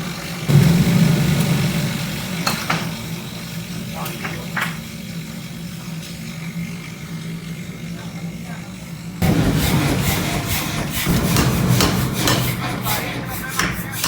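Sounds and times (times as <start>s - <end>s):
machine humming: 0.1s - 14.0s.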